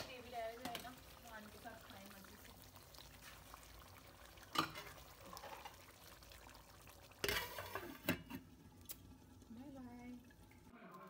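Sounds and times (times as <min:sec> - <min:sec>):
gravy simmering in pot: 0:00.0 - 0:11.0.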